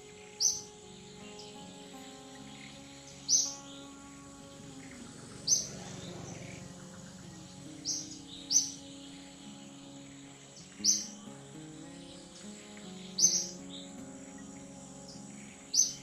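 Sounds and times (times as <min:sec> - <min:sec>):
background music of sustained notes: 0:00.0 - 0:16.0.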